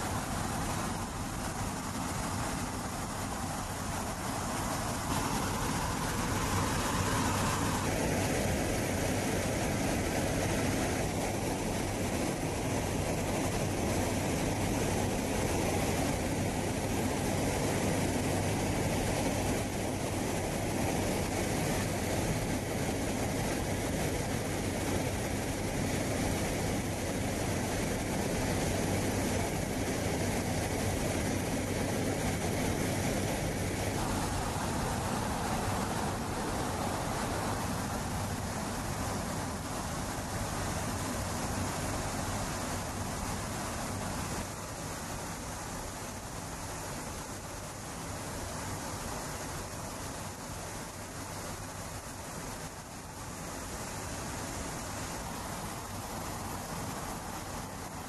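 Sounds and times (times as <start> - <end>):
military aircraft engine drone: 0.0 - 58.0.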